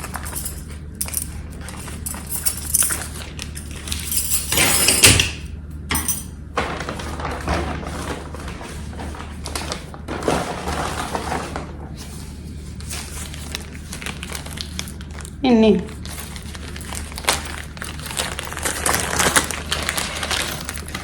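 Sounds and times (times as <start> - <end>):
packaging rustling: 0.0 - 4.3, 6.6 - 21.0
steady low hum: 0.0 - 21.0.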